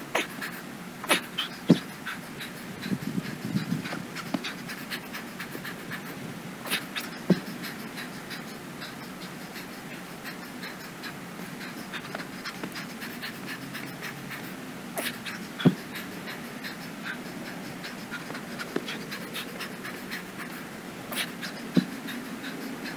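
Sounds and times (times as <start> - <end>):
man panting heavily: 0.0 - 22.9.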